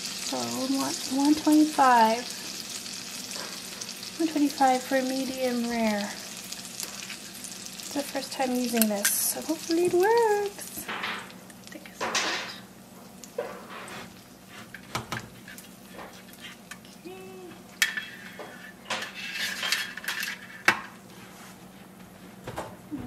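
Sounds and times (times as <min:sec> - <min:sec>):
faint sizzling drippings: 0:00.0 - 0:20.4.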